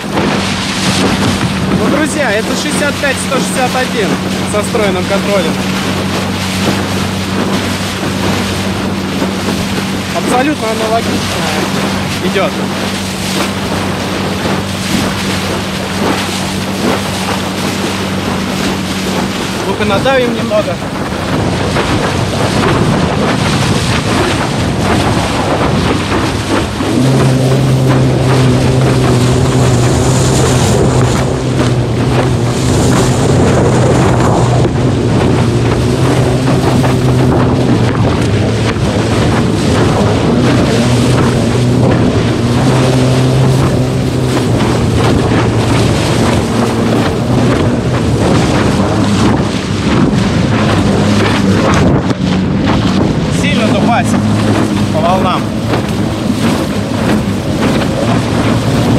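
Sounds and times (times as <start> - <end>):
water rushing past board: 0.0 - 58.9
wind on microphone: 0.0 - 58.9.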